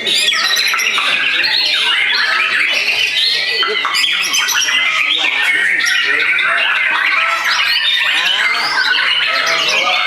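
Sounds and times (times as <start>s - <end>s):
songbirds singing in chorus: 0.0s - 10.0s.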